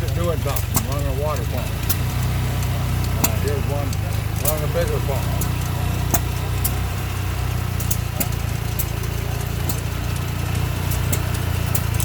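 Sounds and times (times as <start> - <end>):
sharp clicks: 0.0 - 12.0
small engine droning: 0.0 - 12.0.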